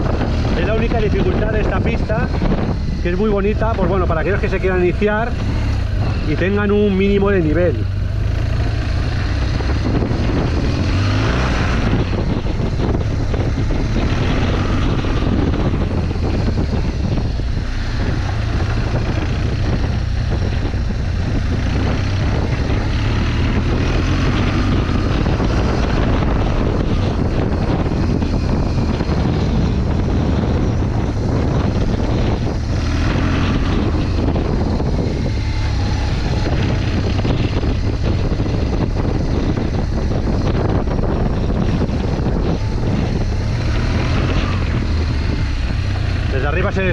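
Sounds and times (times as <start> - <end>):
motorcycle engine droning: 0.0 - 46.9.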